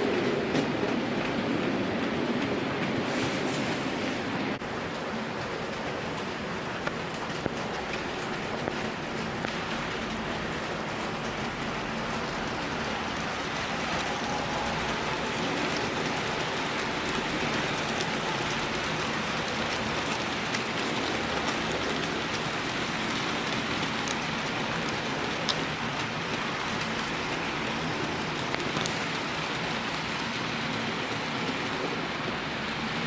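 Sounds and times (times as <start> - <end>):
model train wheels rumbling on rail: 0.0 - 33.0
wheels clicking over rail joints: 0.0 - 33.0.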